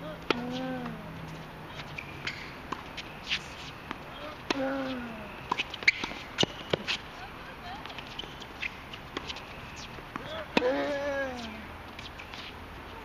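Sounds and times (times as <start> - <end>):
tennis ball hitting rackets: 0.2 - 1.1, 1.7 - 7.1, 7.8 - 12.6.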